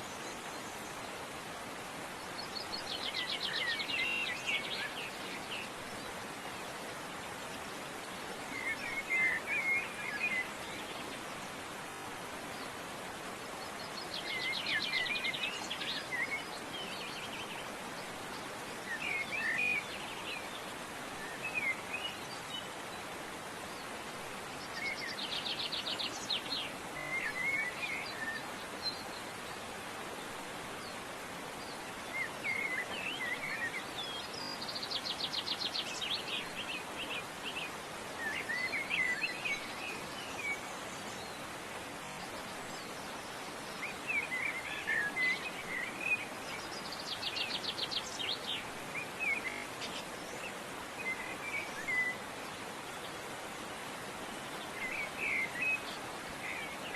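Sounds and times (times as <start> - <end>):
steady hiss: 0.0 - 56.9.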